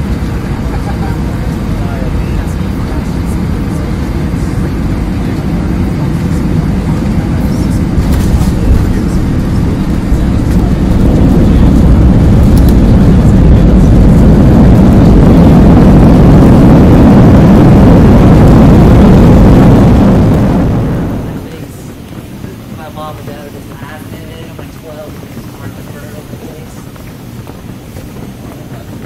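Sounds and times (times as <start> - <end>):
jet engine and rushing air: 0.0 - 29.0.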